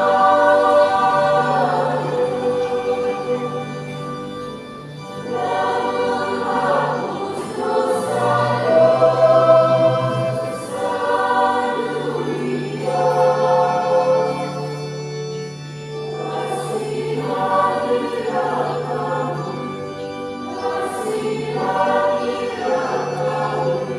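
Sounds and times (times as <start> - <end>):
church choir singing a hymn: 0.0 - 23.9.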